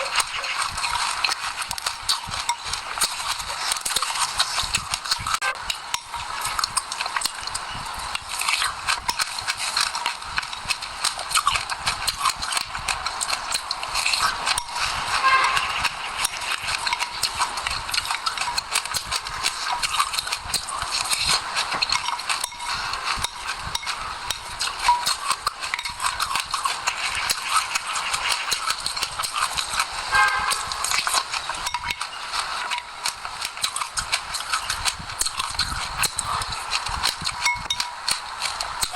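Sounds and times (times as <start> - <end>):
chewing crunchy seeds: 0.0 - 38.9.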